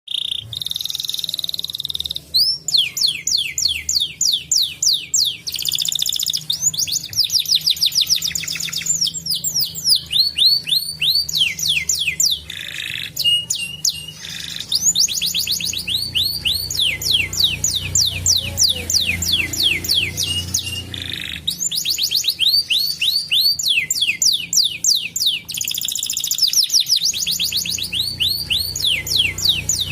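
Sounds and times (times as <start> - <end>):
canary singing: 0.1 - 29.9.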